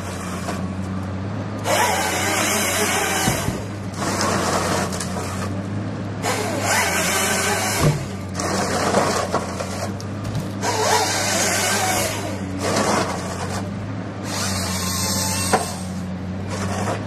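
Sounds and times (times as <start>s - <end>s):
harvester engine running: 0.0s - 17.0s
saw cutting log: 1.6s - 5.6s, 6.2s - 10.0s, 10.6s - 17.0s.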